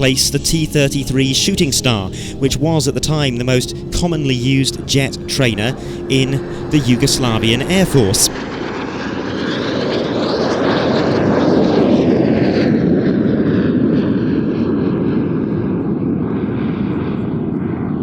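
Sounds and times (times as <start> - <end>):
jet aircraft roar flying past: 0.0 - 18.0.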